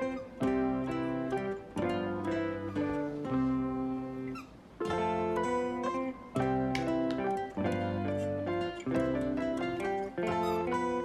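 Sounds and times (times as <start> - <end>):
plucked acoustic guitar tune: 0.0 - 11.0.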